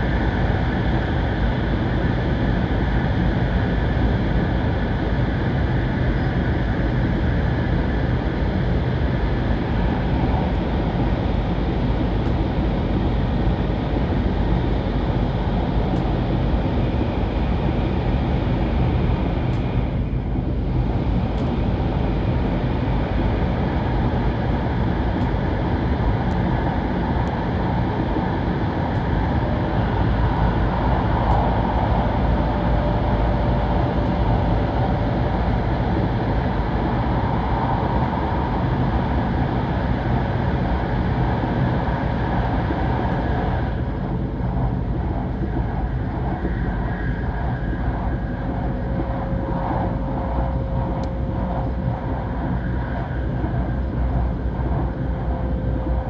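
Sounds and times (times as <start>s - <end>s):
train cabin rush and rumble: 0.0s - 56.0s.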